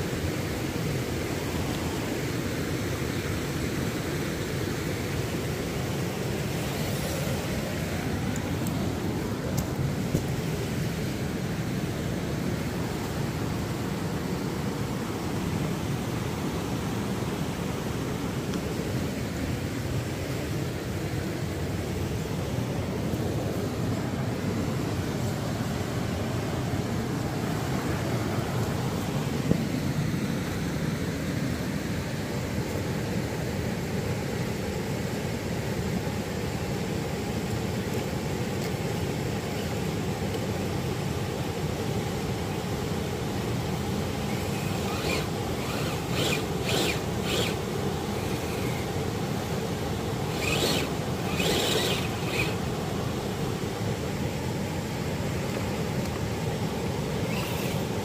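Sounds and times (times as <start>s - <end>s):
river rapids rushing: 0.0s - 31.4s, 39.0s - 58.0s.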